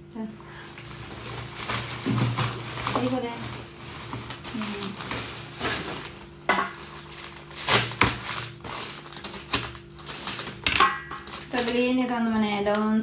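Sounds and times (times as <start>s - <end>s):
plastic packaging crinkling: 0.1s - 12.8s.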